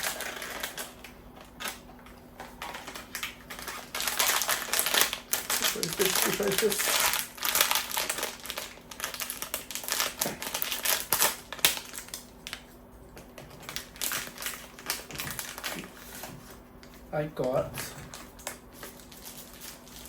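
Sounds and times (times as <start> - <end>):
packaging crinkling and clicking: 0.0 - 20.0.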